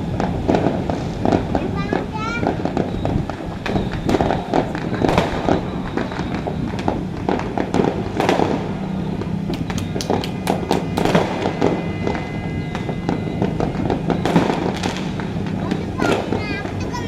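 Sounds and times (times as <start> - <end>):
continuous fireworks crackle: 0.0 - 17.0
fireworks cracking and popping: 0.0 - 17.0.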